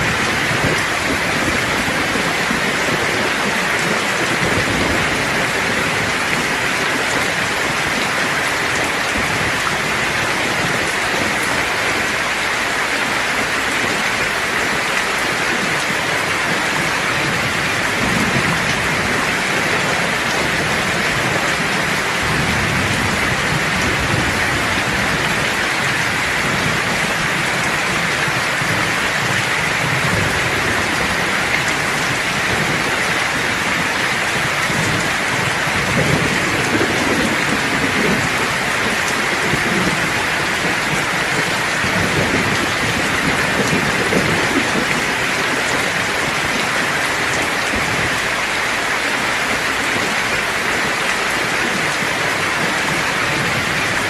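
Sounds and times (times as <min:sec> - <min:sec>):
low thunder rumbling: 0:00.0 - 0:48.6
dense rain pouring: 0:00.0 - 0:54.0.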